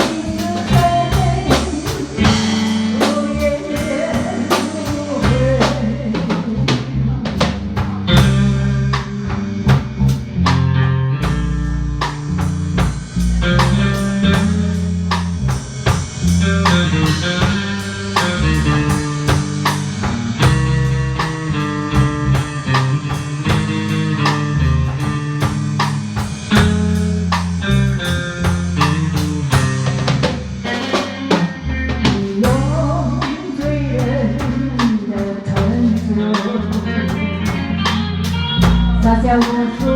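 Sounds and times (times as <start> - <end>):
lead guitar melody: 0.0 - 7.0, 7.9 - 39.9
bass guitar notes: 0.0 - 39.9
drum beat with rimshots: 0.0 - 39.9.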